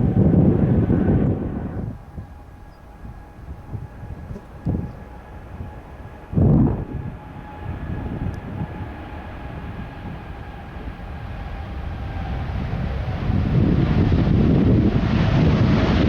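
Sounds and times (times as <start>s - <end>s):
jet engines rumbling and whining: 0.0s - 16.0s
wind buffeting microphone: 0.0s - 16.0s.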